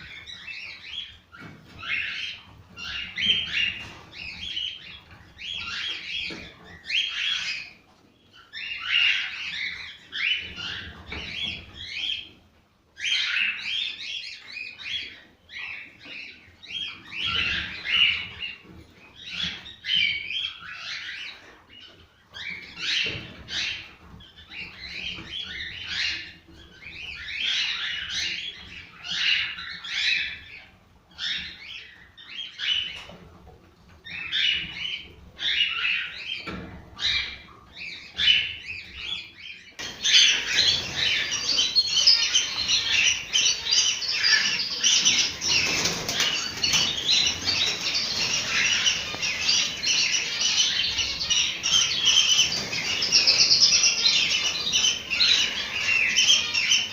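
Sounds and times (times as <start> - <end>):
cockatiels chirping and warbling: 0.0 - 12.4, 13.0 - 33.3, 34.0 - 56.9.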